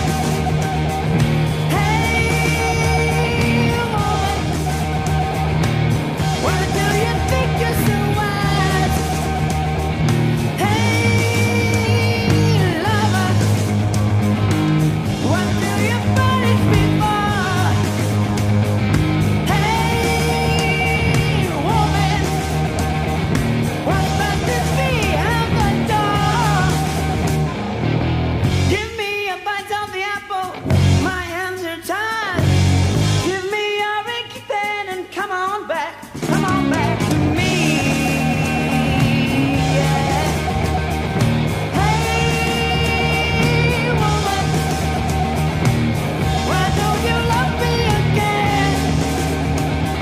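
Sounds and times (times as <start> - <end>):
electric guitar lead: 0.0 - 29.0, 30.5 - 31.2, 32.4 - 33.3, 36.0 - 50.0
bass guitar: 0.0 - 29.2, 30.5 - 31.5, 32.4 - 33.4, 36.1 - 50.0
drums: 0.0 - 50.0.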